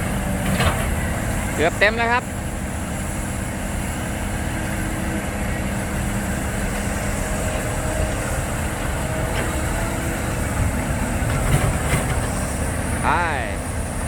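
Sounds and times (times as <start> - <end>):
excavator engine and hydraulics: 0.0 - 14.0
soil loaded into dump truck: 0.0 - 14.0.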